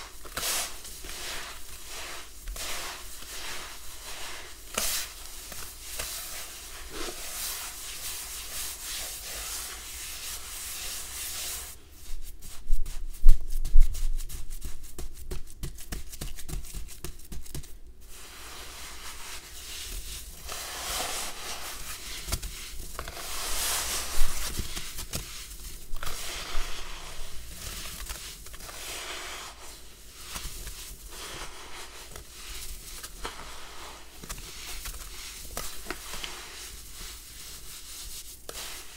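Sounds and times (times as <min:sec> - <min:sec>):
hands kneading damp sand: 0:00.0 - 0:38.9.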